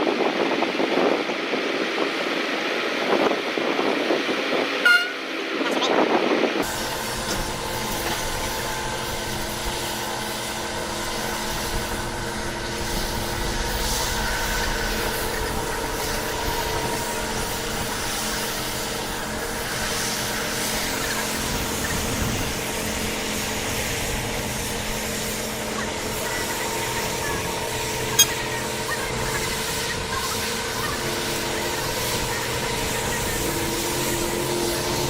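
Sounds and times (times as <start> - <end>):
large engine droning: 0.0 - 35.0.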